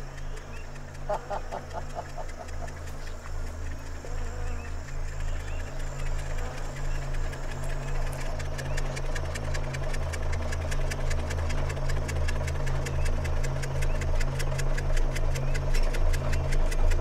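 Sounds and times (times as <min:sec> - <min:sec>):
fast even ticking: 0:00.0 - 0:17.0
tractor engine knocking: 0:00.0 - 0:17.0.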